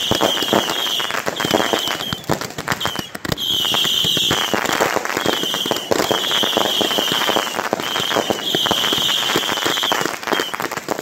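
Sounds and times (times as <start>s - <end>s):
firework high-pitched whistles: 0.0s - 11.0s
fireworks crackling and popping: 0.0s - 11.0s.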